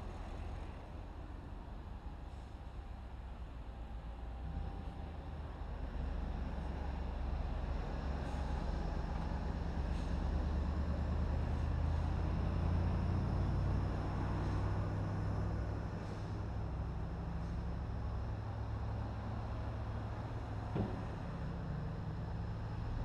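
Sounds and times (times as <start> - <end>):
heavy diesel engines driving by: 0.0 - 23.0.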